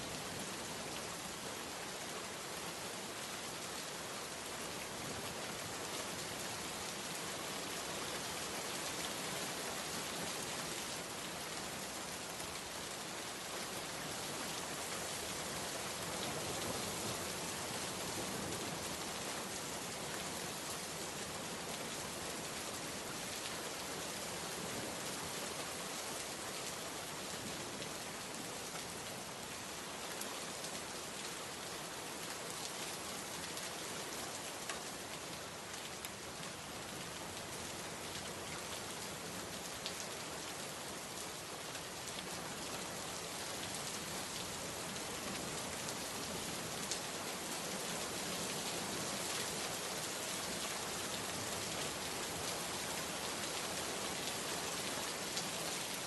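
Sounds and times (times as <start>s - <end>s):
heavy rain falling: 0.1s - 56.0s.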